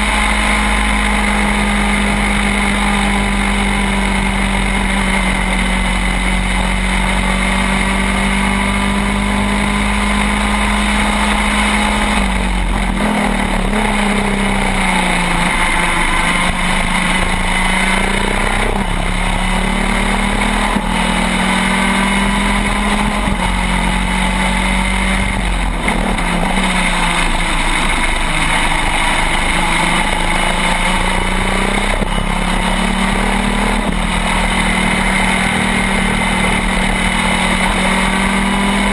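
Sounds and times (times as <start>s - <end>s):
kart engine at high revs: 0.0s - 38.9s.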